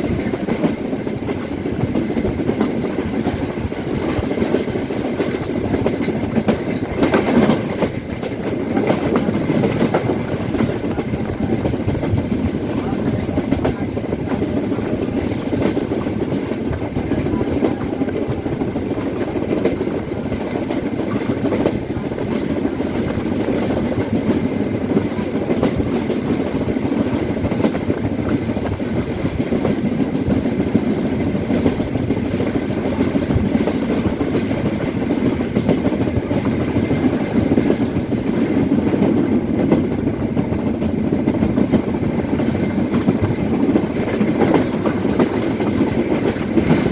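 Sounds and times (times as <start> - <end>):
train carriage rumbling on rails: 0.0 - 46.9.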